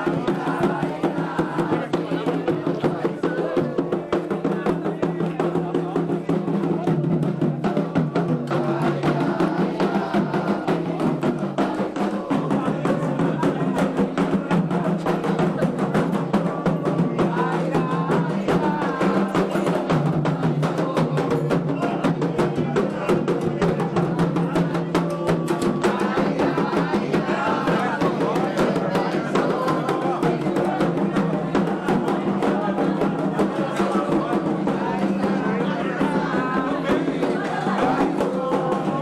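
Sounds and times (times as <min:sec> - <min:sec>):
hand drums playing fast rhythm: 0:00.0 - 0:39.0
voices singing: 0:00.0 - 0:39.0.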